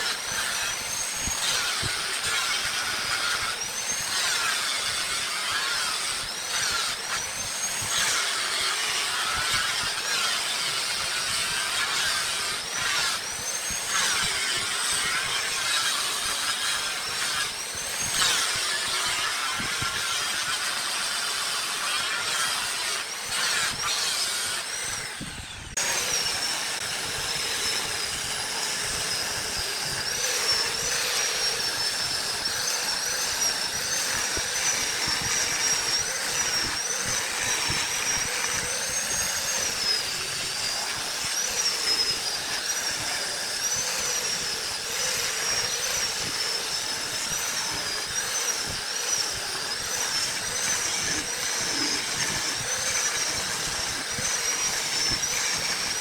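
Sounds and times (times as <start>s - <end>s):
wood lathe turning wood: 0.0s - 56.0s.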